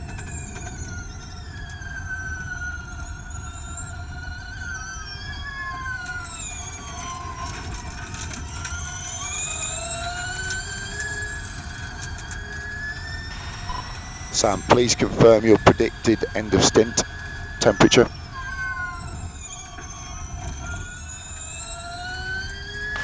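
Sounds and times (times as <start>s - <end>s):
electric race car whining: 0.0s - 23.0s
road and wind rumble: 0.0s - 23.0s.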